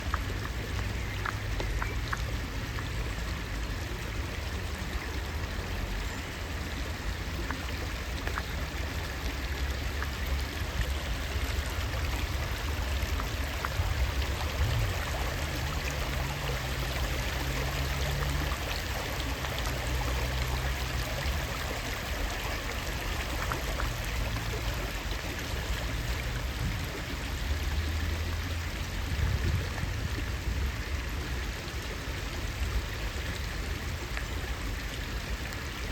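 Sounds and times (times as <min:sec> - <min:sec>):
rain dripping onto water: 0:00.0 - 0:35.9.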